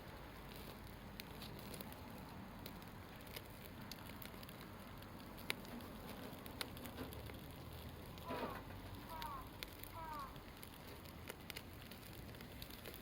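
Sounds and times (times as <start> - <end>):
campfire crackling: 0.0 - 13.0
sharp pops from burning wood: 0.0 - 13.0.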